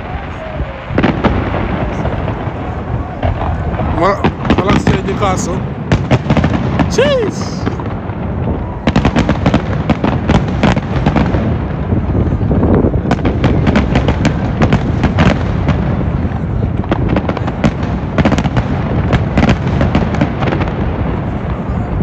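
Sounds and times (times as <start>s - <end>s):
steady low rumble: 0.0s - 19.2s
fireworks bangs and crackles: 0.0s - 22.0s.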